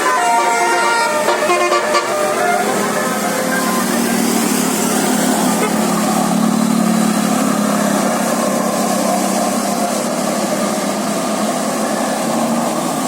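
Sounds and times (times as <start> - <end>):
bus engine running: 0.0 - 13.0
road noise hiss: 0.0 - 13.0.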